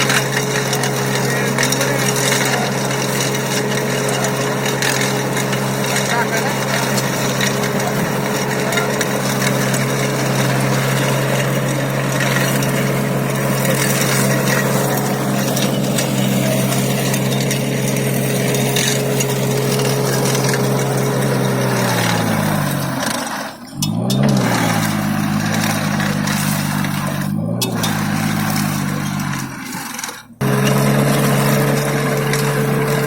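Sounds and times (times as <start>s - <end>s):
rough gritty shaving noise: 0.0s - 33.0s
tractor engine hum: 0.0s - 33.0s.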